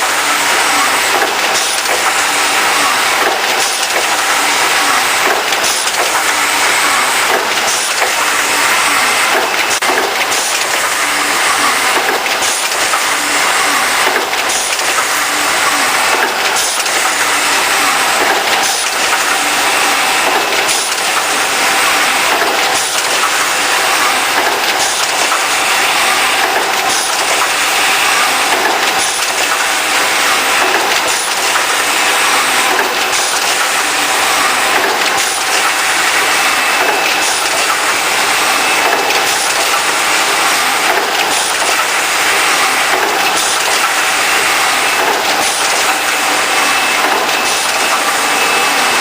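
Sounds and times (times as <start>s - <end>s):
milling machine running: 0.0s - 49.0s.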